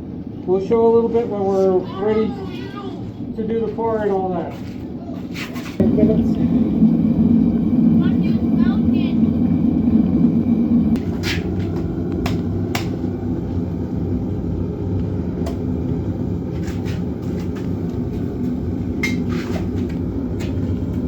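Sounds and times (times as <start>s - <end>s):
furnace burner roaring: 0.0s - 21.0s.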